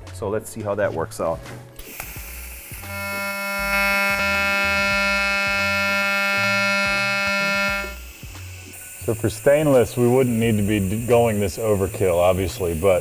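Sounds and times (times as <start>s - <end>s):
welding arc buzzing: 1.8s - 13.0s.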